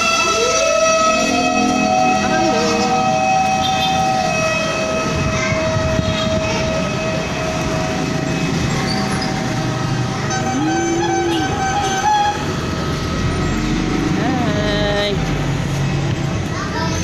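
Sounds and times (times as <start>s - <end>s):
siren wailing: 0.0s - 13.8s
traffic noise: 0.0s - 17.0s.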